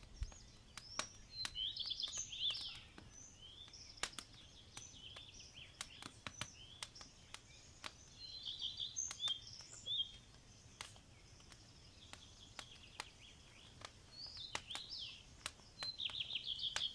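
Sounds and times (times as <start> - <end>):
sharp clicks: 0.0 - 8.1, 9.0 - 16.9
songbirds chirping: 0.0 - 16.9.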